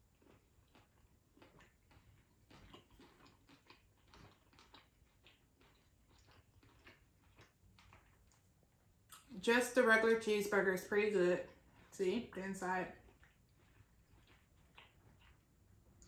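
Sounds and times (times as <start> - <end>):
person chewing food: 0.0 - 9.3, 11.4 - 11.9, 12.9 - 16.0.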